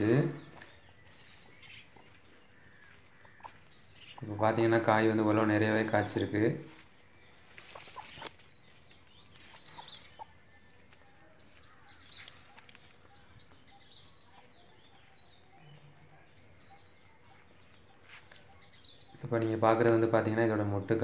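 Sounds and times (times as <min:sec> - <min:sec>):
small bird chirping: 0:00.3 - 0:04.3, 0:05.1 - 0:06.3, 0:07.2 - 0:19.4.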